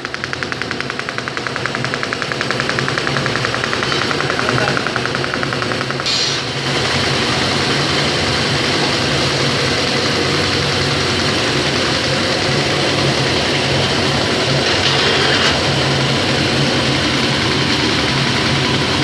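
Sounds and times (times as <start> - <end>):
factory machinery running: 0.0 - 19.0.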